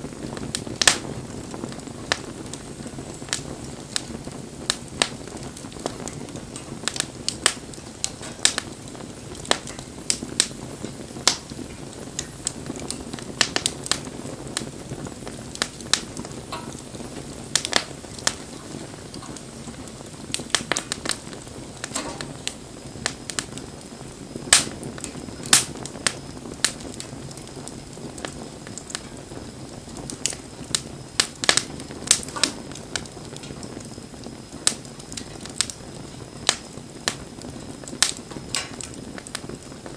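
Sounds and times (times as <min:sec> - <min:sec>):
campfire pops and snaps: 0:00.0 - 0:39.9
low rush of flames: 0:00.0 - 0:39.9.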